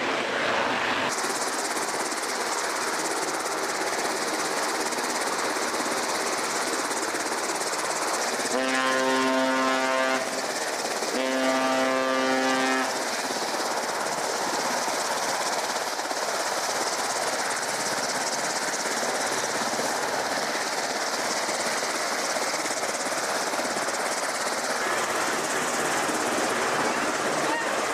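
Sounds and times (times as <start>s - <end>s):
aircraft engines roaring: 0.0s - 27.9s.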